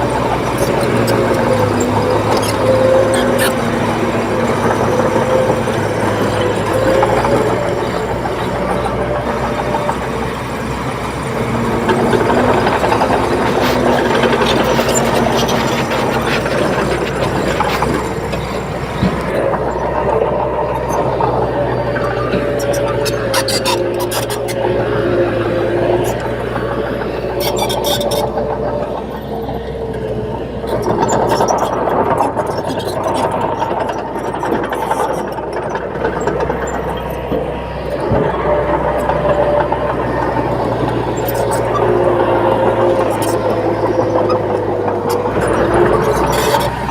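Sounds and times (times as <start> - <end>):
bulldozer clicks and clanks: 0.0 - 46.9
bulldozer diesel engine running: 0.0 - 46.9.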